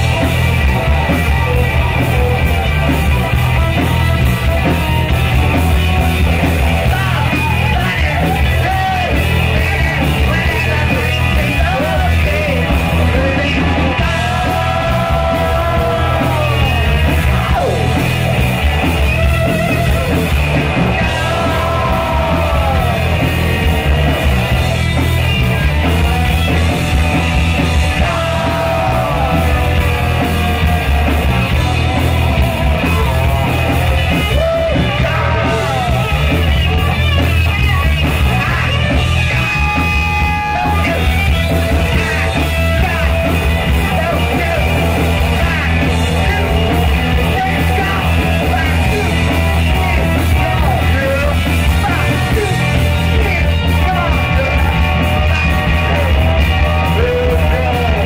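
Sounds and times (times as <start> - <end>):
drum kit: 0.0 - 58.0
electric guitars: 0.0 - 58.0
singer yelling and singing: 0.0 - 58.0.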